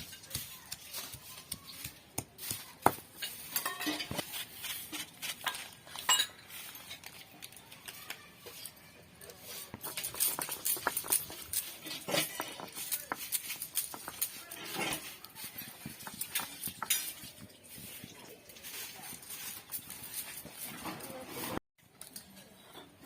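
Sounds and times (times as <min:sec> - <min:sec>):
utensils scraping cookware: 0:01.7 - 0:23.0.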